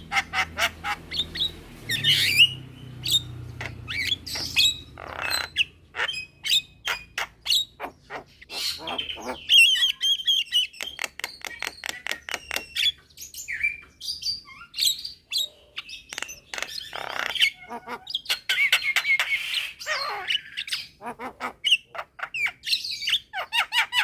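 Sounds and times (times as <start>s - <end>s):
mynas calling: 0.0s - 13.0s, 14.4s - 24.0s.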